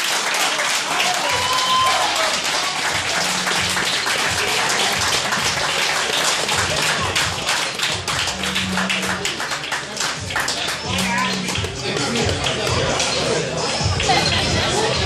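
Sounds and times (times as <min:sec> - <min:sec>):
audience clapping: 0:00.0 - 0:14.9.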